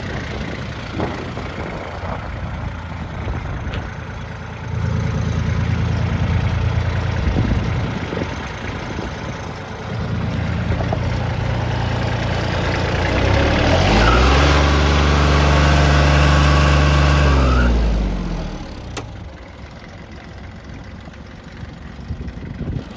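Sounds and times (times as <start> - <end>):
diesel tractor engine revving: 0.0 - 22.9.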